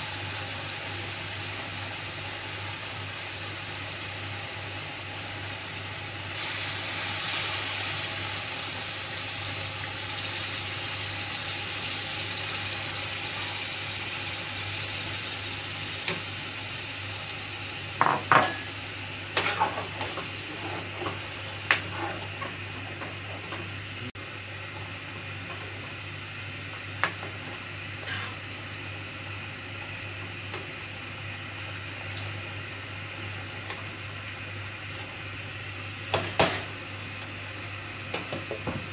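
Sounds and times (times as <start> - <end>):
gravy sizzling in a pan: 0.0 - 38.9.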